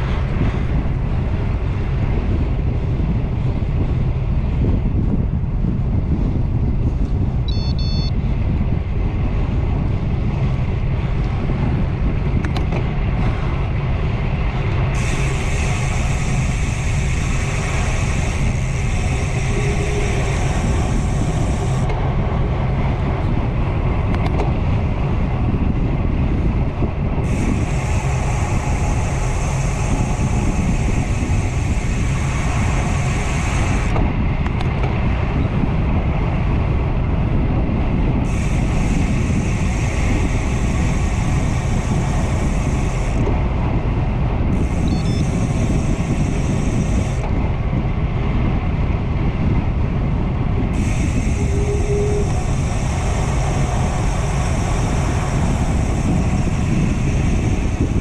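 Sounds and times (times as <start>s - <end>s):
bicycle tyre noise: 0.0s - 7.4s, 8.2s - 58.0s
wind rushing over microphone: 0.0s - 58.0s.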